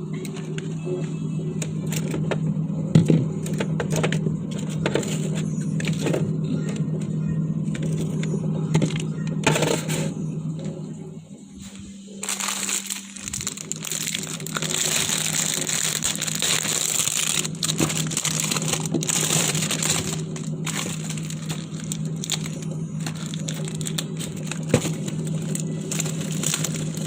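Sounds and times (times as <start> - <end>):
low hum: 0.0 - 27.0
crackling and crinkling: 0.1 - 10.1, 11.6 - 27.0.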